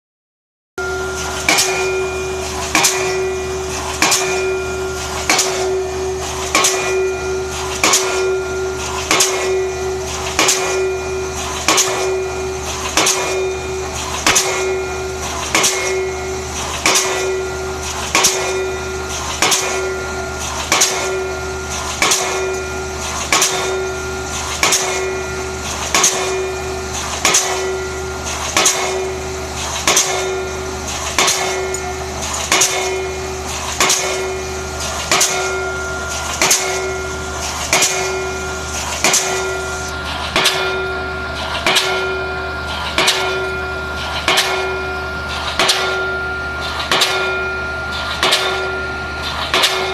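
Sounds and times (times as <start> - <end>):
pile hammer striking: 1.4 - 29.2, 29.8 - 41.0, 41.6 - 42.3, 43.0 - 43.6, 44.2 - 44.9, 45.6 - 49.9.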